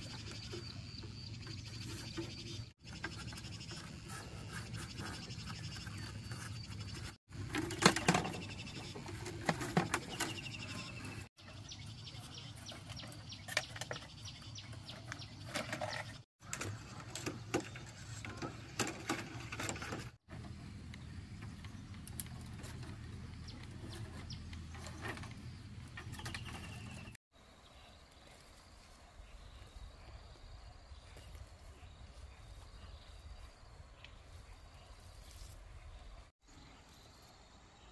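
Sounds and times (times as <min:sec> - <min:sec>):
outdoor background: 0:00.0 - 0:37.9.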